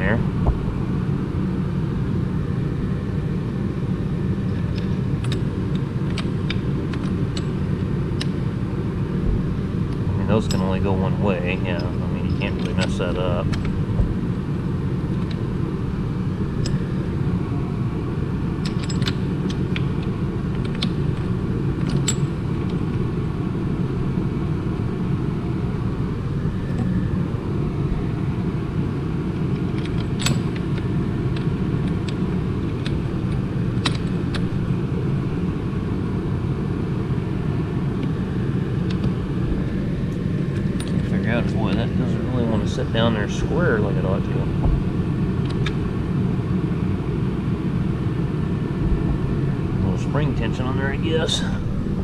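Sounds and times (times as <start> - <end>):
low rumble of shop noise: 0.0 - 52.0.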